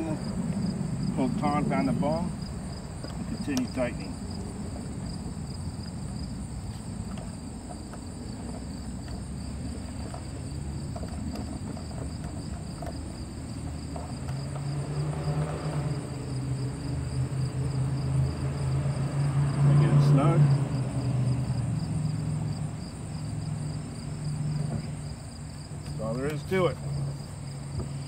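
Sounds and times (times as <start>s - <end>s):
insect chorus: 0.0s - 28.0s.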